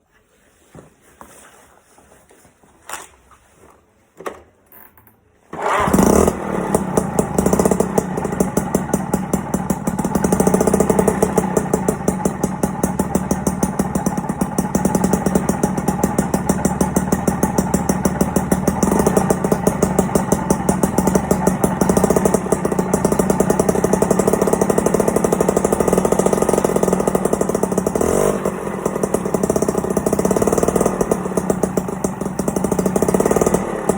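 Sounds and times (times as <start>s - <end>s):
moped engine running: 5.6s - 33.9s.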